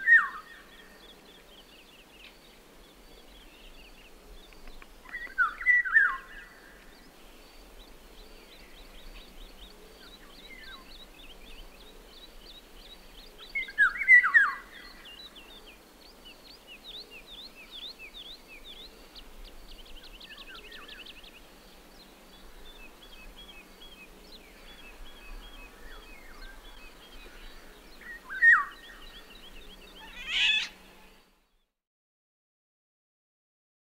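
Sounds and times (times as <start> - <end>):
small birds chirping: 0.0 - 31.7.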